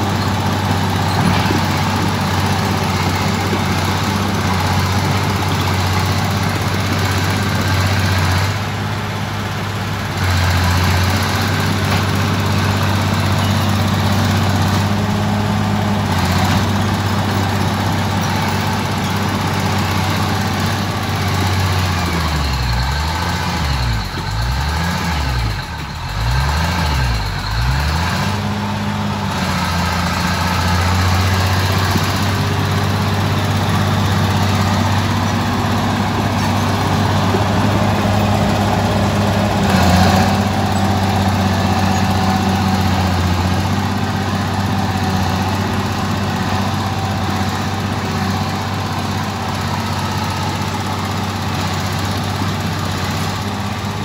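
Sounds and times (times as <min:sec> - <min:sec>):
bulldozer diesel engine running hard: 0:00.0 - 0:54.0.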